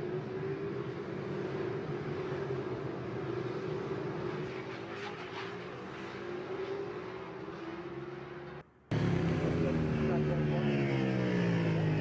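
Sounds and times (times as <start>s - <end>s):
racing motorcycle engines droning: 0.0s - 12.0s.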